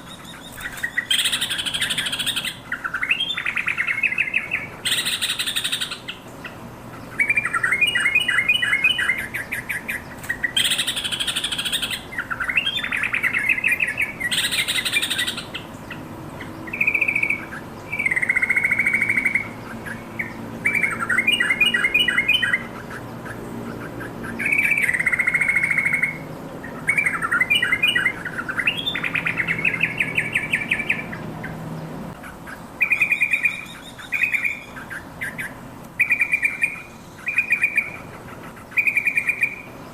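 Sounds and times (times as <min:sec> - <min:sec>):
bird singing bubbling phrases: 0:00.0 - 0:39.9.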